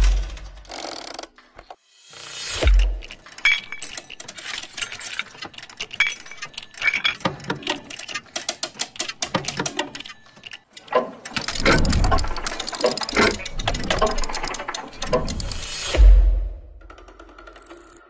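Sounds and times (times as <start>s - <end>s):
small mechanical clicks and ticks: 0.0s - 1.8s, 2.4s - 16.0s, 16.8s - 18.0s.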